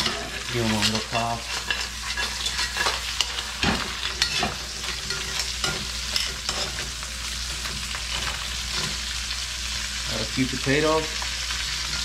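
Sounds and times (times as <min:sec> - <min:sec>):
tongs clicking and scraping pan: 0:00.0 - 0:09.4, 0:10.8 - 0:12.0
crab sizzling in a wok: 0:00.0 - 0:12.0.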